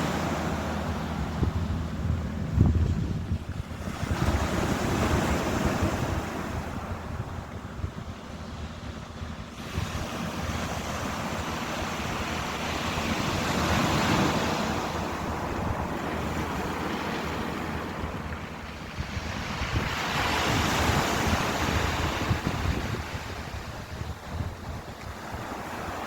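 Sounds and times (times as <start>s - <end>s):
ocean waves breaking: 0.0s - 26.0s
wind on microphone: 0.0s - 26.0s.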